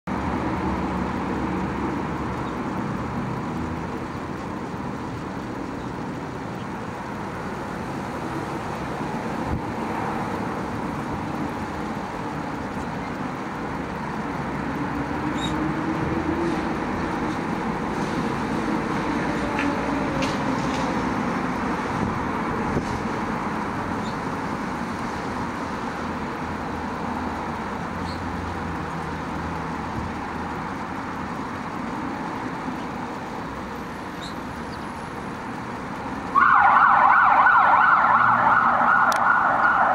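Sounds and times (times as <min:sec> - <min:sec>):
road traffic hum: 0:00.0 - 0:39.9.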